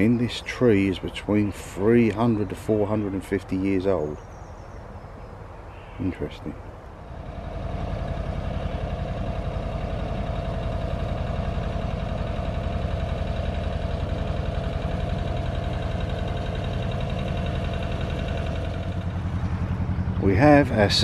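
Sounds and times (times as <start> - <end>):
engine idling: 0.0 - 4.4, 6.0 - 21.0.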